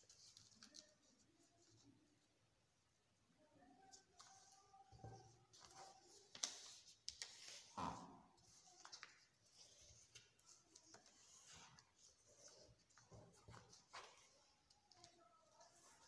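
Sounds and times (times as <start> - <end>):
paper rustling and crinkling: 0.0 - 2.0, 3.9 - 7.8, 8.4 - 16.0.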